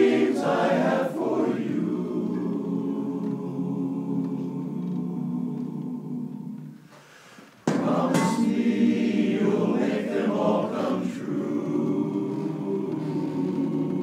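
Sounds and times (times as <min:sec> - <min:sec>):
male chorus singing a cappella: 0:00.0 - 0:07.0, 0:07.7 - 0:14.0.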